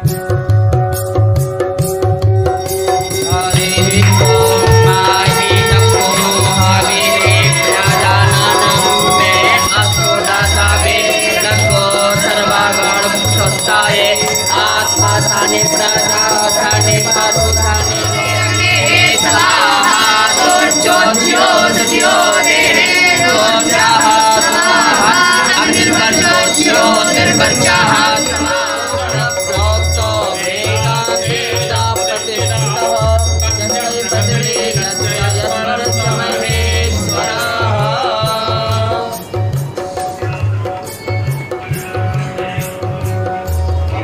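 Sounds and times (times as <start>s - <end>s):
jingling rattling percussion: 0.0s - 44.0s
person singing: 2.7s - 39.5s.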